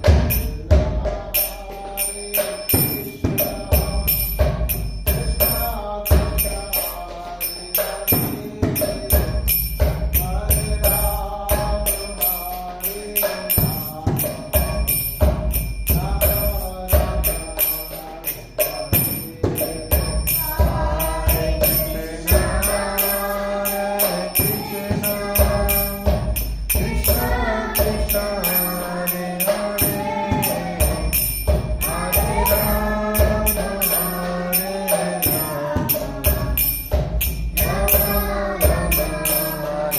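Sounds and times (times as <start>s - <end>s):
jingling hand percussion: 0.0s - 39.9s
voices singing a chant: 0.0s - 39.9s.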